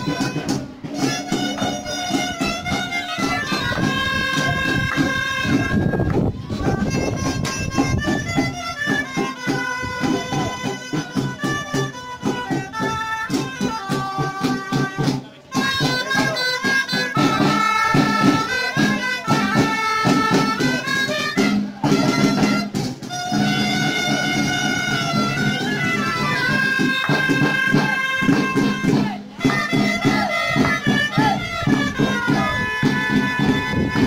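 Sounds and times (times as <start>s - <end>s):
drum beats: 0.0s - 34.0s
shawms playing dance tune: 0.0s - 34.0s.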